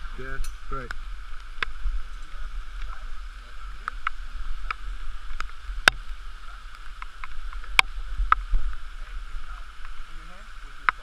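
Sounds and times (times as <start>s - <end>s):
muffled water rushing over rocks: 0.0s - 11.0s.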